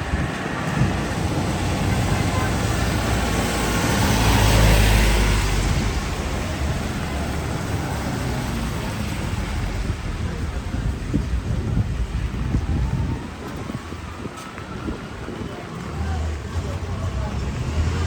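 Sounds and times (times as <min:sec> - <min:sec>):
vehicle passing close: 0:00.0 - 0:15.0, 0:15.8 - 0:18.0
hiss of street and wind: 0:00.0 - 0:18.0.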